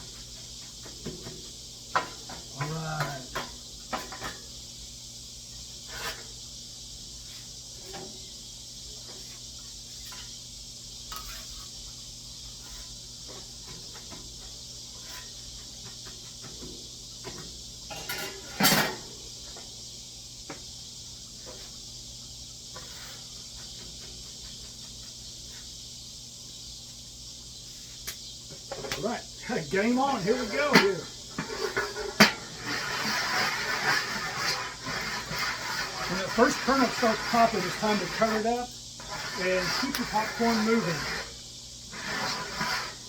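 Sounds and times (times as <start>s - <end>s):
oil sizzling on griddle: 0.0s - 43.0s.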